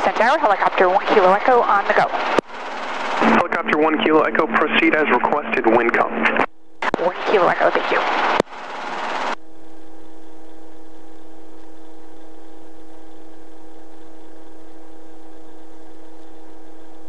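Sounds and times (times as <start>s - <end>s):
helicopter engine and rotor hum: 0.0s - 17.0s.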